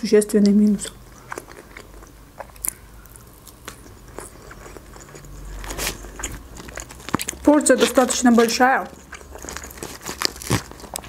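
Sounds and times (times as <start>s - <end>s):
chewing and crunching salad: 0.2s - 11.0s.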